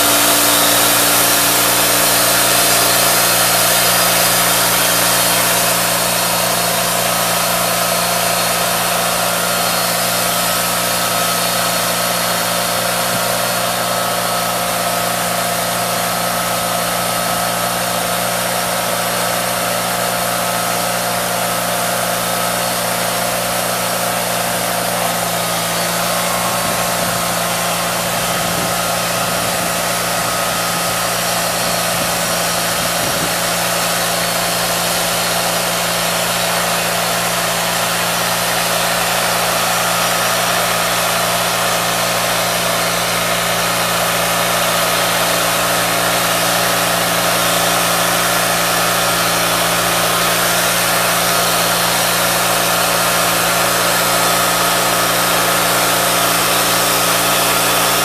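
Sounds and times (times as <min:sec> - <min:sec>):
band sawmill engine running: 0:00.0 - 0:58.0
diesel engine running: 0:00.0 - 0:58.0.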